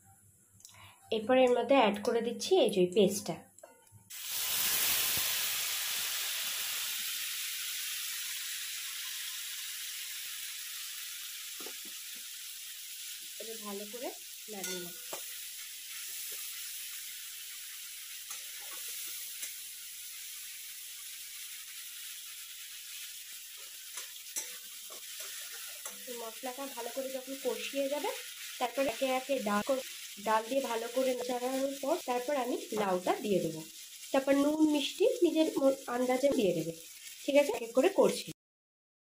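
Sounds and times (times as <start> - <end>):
paste sizzling in hot oil: 4.1 - 38.4.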